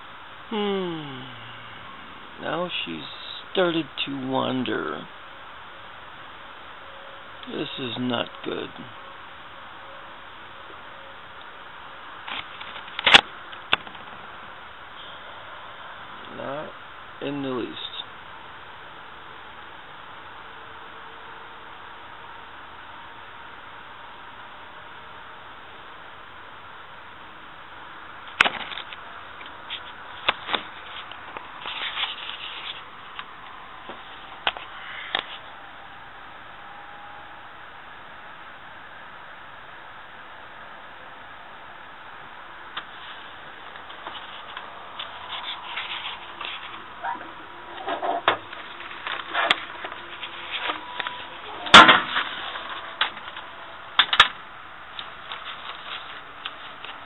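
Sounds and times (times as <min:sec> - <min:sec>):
steady low hiss: 0:00.0 - 0:57.0.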